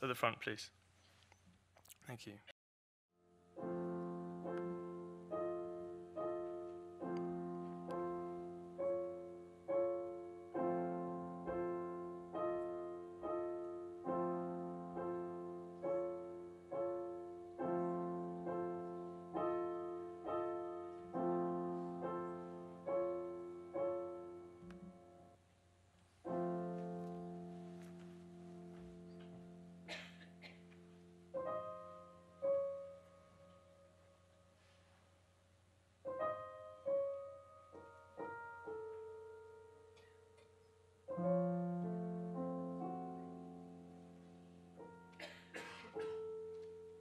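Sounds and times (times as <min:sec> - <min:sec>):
piano chords: 0:03.2 - 0:25.5, 0:26.2 - 0:34.6, 0:36.0 - 0:47.0.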